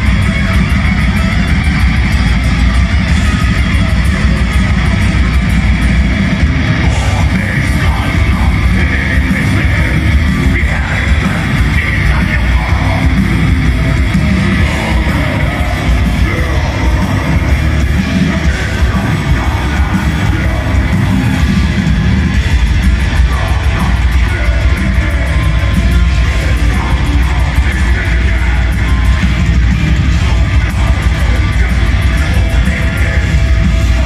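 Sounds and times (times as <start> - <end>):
bass: 0.0 - 34.0
distorted electric guitars: 0.0 - 34.0
drums: 0.0 - 34.0.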